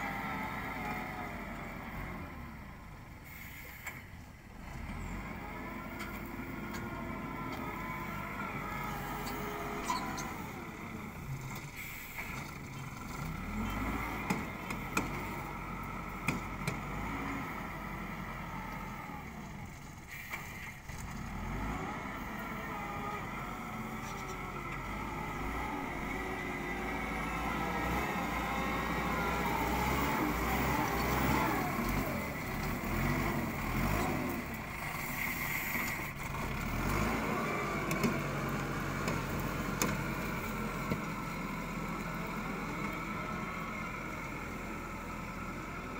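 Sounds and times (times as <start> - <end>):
wheel loader diesel engine: 0.0 - 45.9.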